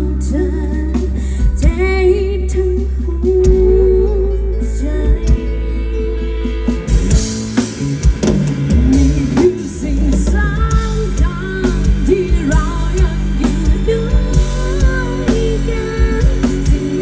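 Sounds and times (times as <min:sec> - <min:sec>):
instrumental pop-rock band music: 0:00.0 - 0:17.0.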